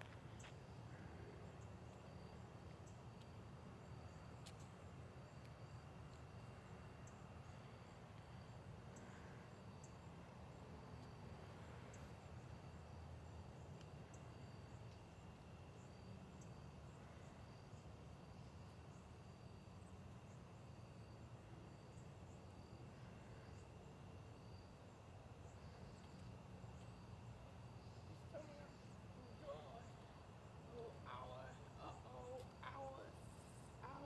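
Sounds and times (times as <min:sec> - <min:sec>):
insect chirps: 0:00.0 - 0:34.0.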